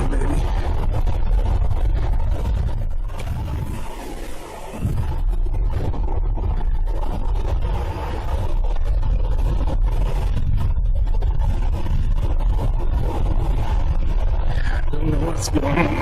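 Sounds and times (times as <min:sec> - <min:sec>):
wind rushing on microphone: 0:00.0 - 0:16.0.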